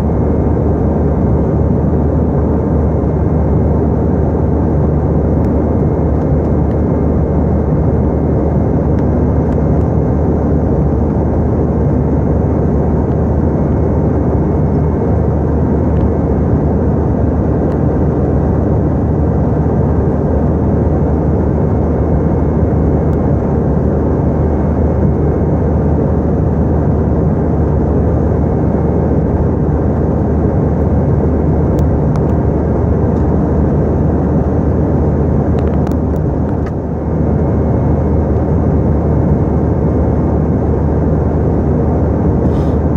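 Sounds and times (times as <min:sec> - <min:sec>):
airliner engines and airflow: 0:00.0 - 0:42.9
faint steady hum: 0:00.0 - 0:42.9.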